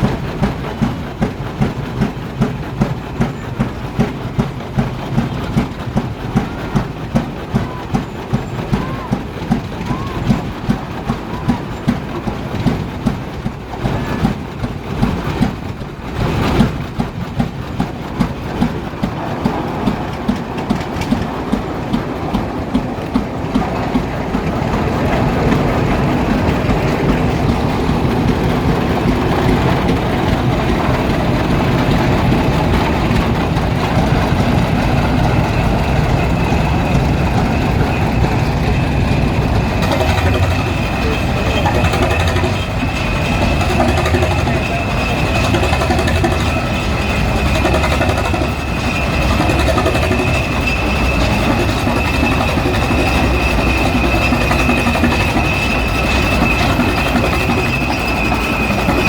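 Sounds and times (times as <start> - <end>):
tractor engine popping exhaust: 0.0 - 59.0.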